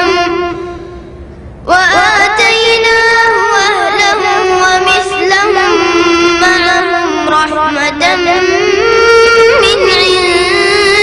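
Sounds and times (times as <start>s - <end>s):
boy reciting in melodic chant: 0.0s - 11.0s.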